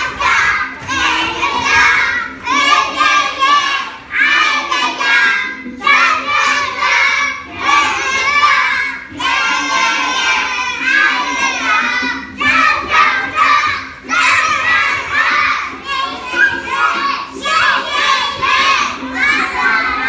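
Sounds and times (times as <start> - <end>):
faint backing track: 0.0 - 20.0
young children singing: 0.0 - 20.0.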